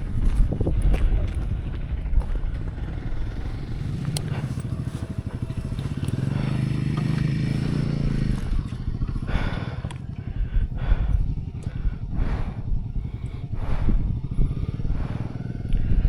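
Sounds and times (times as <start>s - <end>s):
motorcycle engine off-road: 0.0s - 16.0s.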